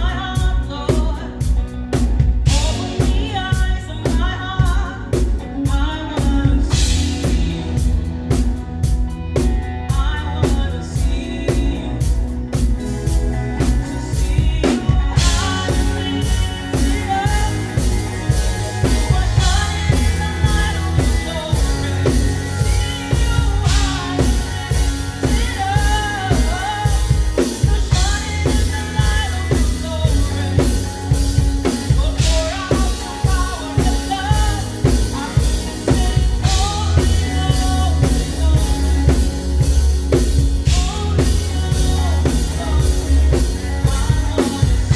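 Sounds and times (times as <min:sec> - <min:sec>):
drum kit groove: 0:00.0 - 0:44.9
heavy bass line: 0:00.0 - 0:44.9
person singing: 0:00.0 - 0:44.9.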